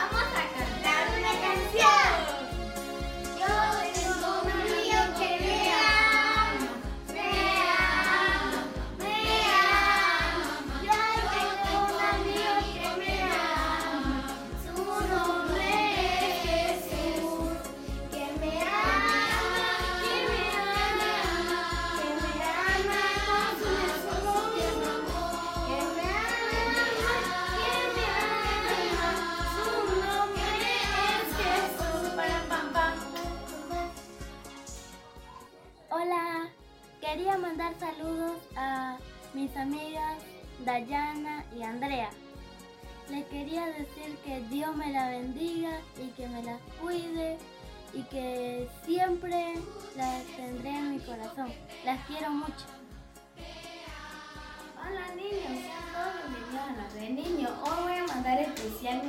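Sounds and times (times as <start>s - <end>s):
children's song with steady beat: 0.0s - 59.0s.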